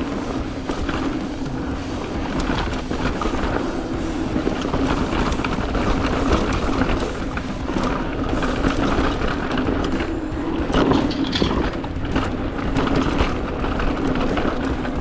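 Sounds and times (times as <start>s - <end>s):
bike rattling over bumps: 0.0s - 15.0s
steady motor hum: 0.0s - 15.0s
tyres rumbling on dirt: 0.0s - 15.0s.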